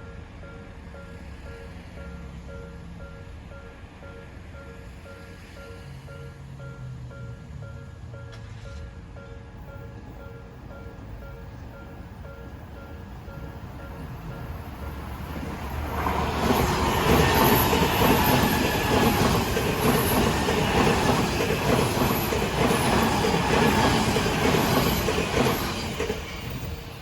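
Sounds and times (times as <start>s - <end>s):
crossing warning bell ringing: 0.0s - 26.3s
electric train passing: 0.0s - 27.0s.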